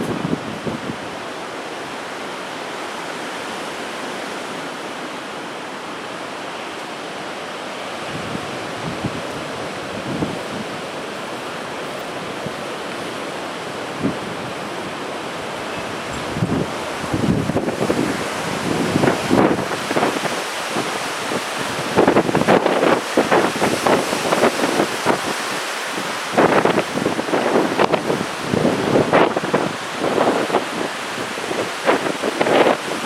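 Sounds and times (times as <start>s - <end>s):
wind and rain rushing: 0.0s - 33.0s.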